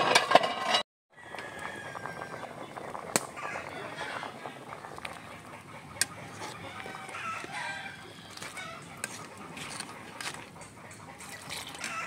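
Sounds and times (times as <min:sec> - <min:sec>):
chickens clucking: 0:01.4 - 0:12.0.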